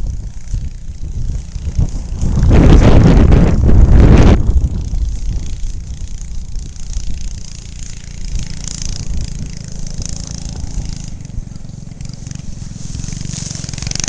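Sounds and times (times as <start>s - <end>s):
small engine low rumble: 0.0s - 14.0s.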